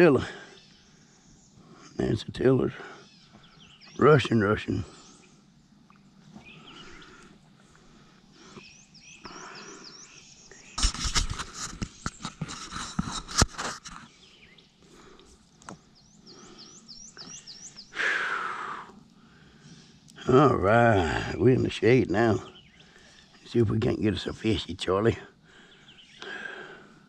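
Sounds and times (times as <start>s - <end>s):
songbird chirping: 0.0s - 12.6s, 13.6s - 27.0s.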